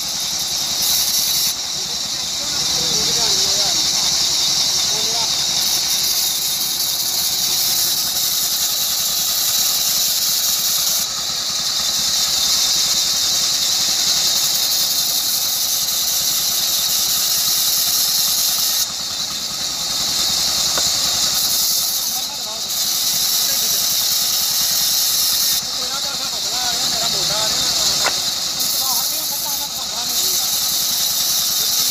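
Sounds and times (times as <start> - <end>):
band saw cutting wood: 0.0 - 31.9.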